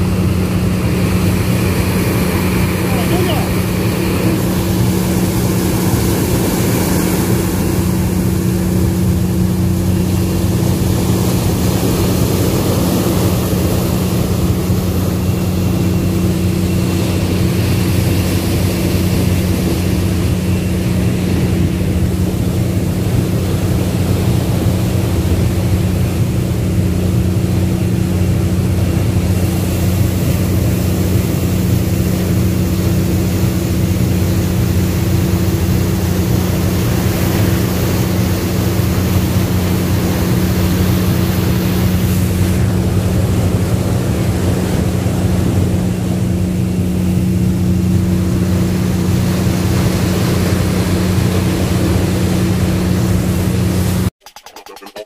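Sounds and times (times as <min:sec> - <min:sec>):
ship engine humming: 0:00.0 - 0:54.1
wake rushing: 0:00.0 - 0:55.0.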